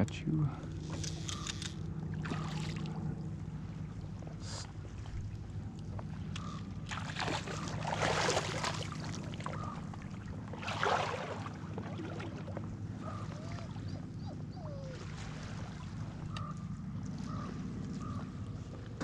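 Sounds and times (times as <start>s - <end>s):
fish splashing in water: 0.9s - 3.8s, 5.5s - 14.2s, 14.8s - 19.0s.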